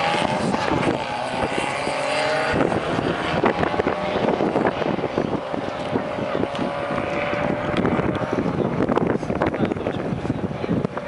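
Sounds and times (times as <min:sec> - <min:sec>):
small car engines revving hard: 0:00.0 - 0:11.0
wind buffeting microphone: 0:00.0 - 0:11.0.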